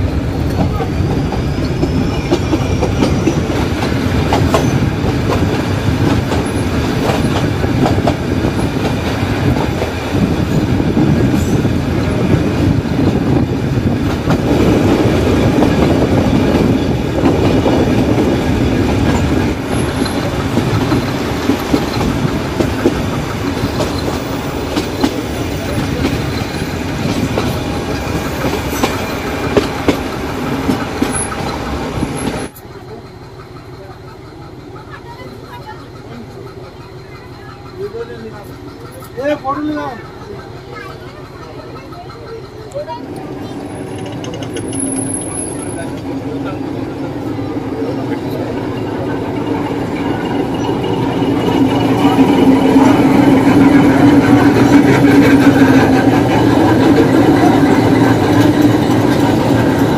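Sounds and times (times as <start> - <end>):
rail joint clicks: 0.0 - 59.9
train wheels rumbling on track: 0.0 - 59.9.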